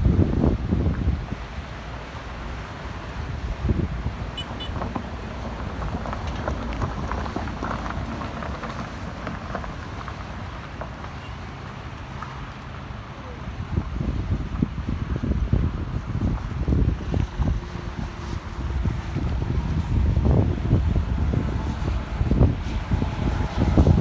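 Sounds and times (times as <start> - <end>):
road traffic: 0.0 - 24.0
wind buffeting microphone: 0.0 - 24.0.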